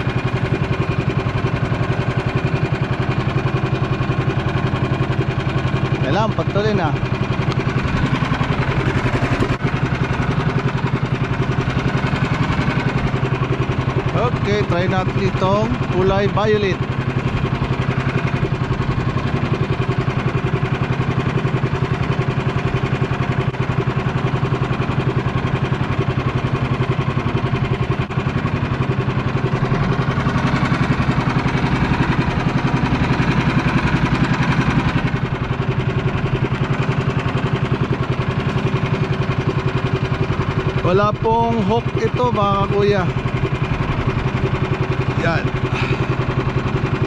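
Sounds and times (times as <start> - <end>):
small engine idling: 0.0 - 47.0.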